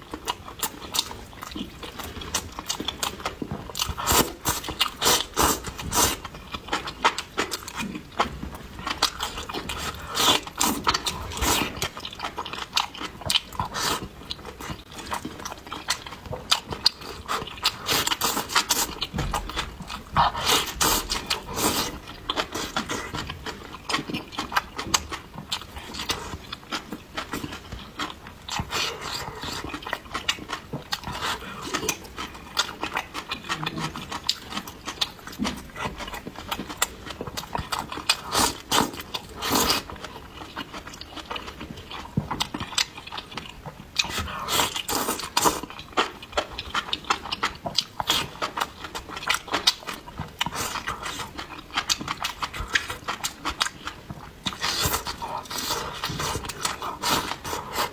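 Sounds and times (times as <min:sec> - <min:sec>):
wet chewing and smacking: 0:00.0 - 0:57.9.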